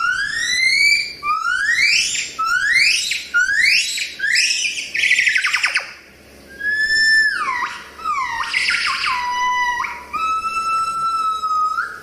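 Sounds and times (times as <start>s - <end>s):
gibbon whooping and trilling: 0.0s - 12.0s.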